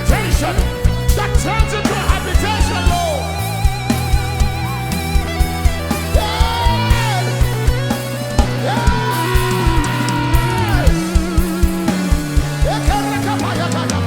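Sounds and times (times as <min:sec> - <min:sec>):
band playing instrumental: 0:00.0 - 0:14.0
wavering lead melody: 0:00.0 - 0:14.0.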